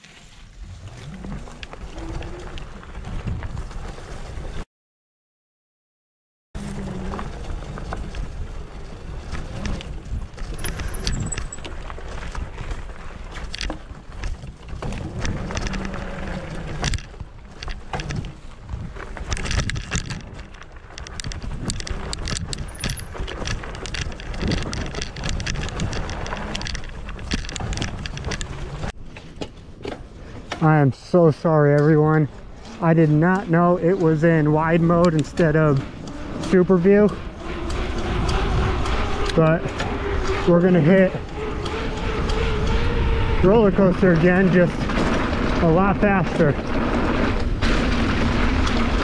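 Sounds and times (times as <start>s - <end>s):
tyre noise on dirt: 0.0s - 4.6s, 6.6s - 49.0s
bike rattling and knocking: 7.1s - 30.6s, 31.9s - 49.0s.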